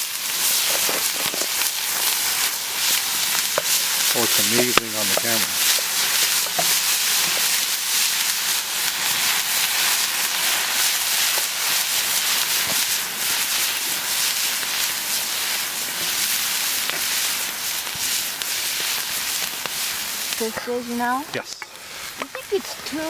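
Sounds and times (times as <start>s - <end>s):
campfire crackles: 0.0s - 23.0s
food sizzling in a pan: 0.0s - 23.0s.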